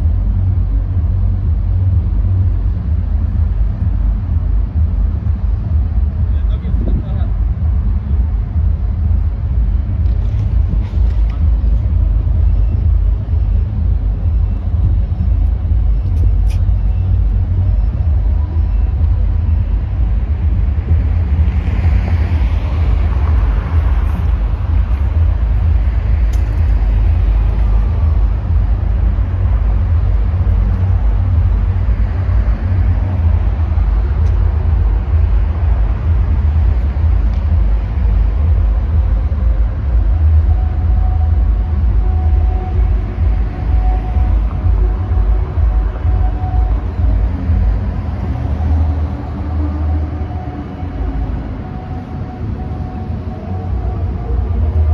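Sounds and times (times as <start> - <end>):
city street traffic rumble: 0.0 - 54.9.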